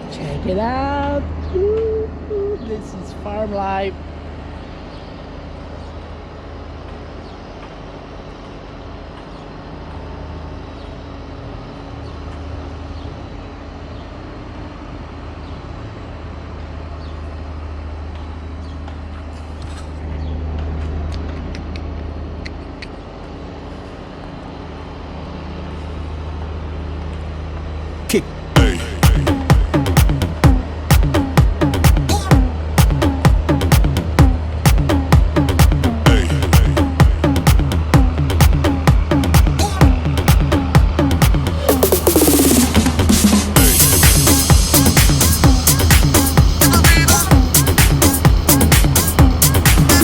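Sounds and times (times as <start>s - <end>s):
low mechanical drone: 0.0s - 50.0s.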